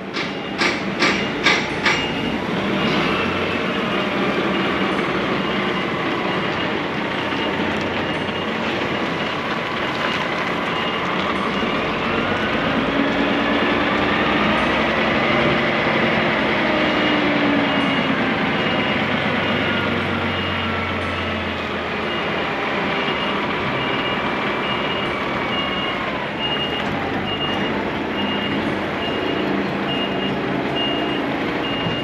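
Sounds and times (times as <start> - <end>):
diesel engine running: 0.0 - 32.0
truck reversing alarm beeping: 0.0 - 32.0.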